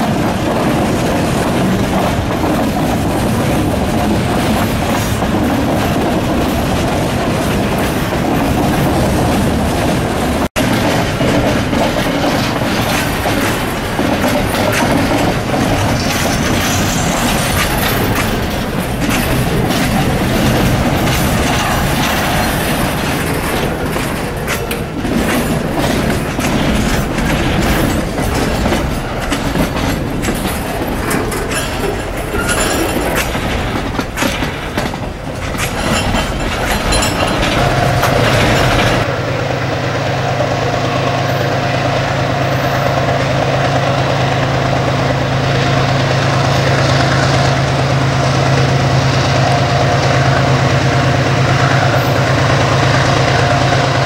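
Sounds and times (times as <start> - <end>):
diesel locomotive drone: 0.0 - 54.0
train wheels clickety-clack: 0.0 - 54.0.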